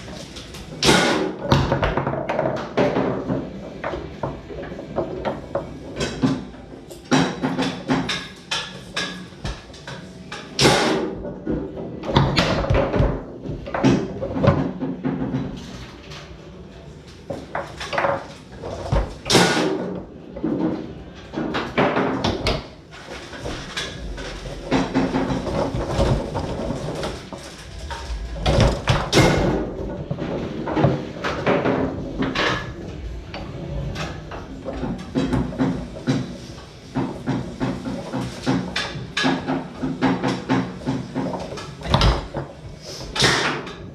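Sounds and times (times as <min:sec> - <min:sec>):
foosball rods sliding and knocking: 0:00.0 - 0:16.4, 0:17.1 - 0:43.9.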